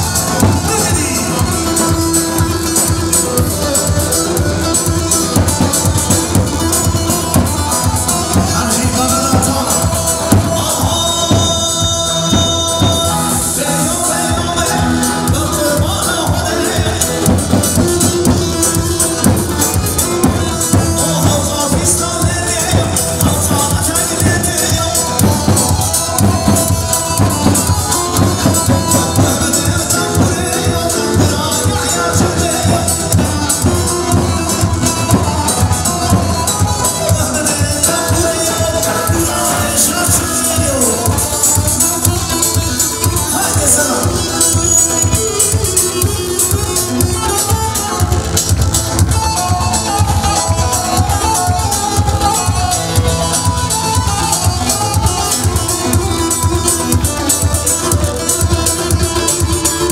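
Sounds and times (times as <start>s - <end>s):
keyboard: 0.0s - 59.9s
plucked strings: 0.0s - 59.9s
steady drum beat: 0.0s - 59.9s.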